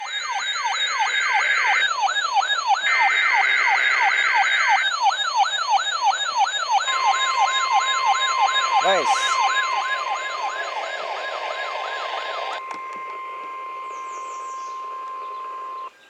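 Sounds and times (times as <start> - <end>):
electronic siren alarm whooping: 0.0 - 15.9.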